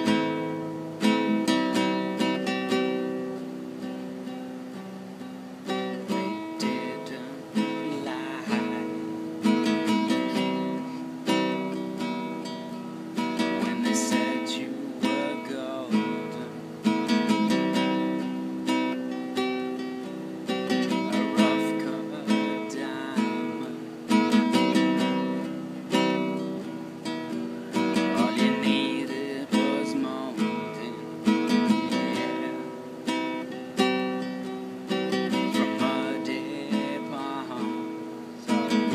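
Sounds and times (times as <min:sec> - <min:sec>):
acoustic guitar chords: 0:00.0 - 0:38.9.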